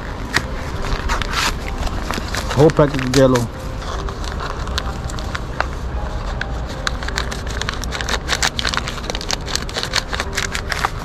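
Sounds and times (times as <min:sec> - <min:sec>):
paper packet crinkling: 0:00.0 - 0:11.0.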